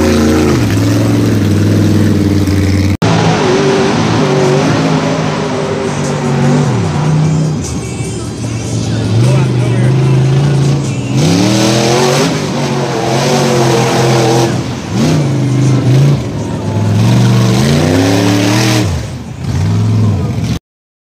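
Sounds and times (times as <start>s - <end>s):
engine revving hard: 0.0s - 7.5s, 9.2s - 16.3s, 16.9s - 20.0s.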